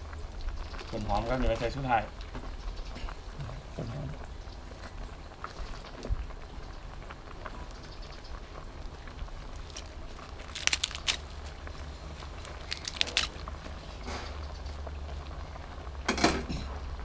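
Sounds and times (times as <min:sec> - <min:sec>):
leafy vegetables rustling: 0:00.0 - 0:15.0.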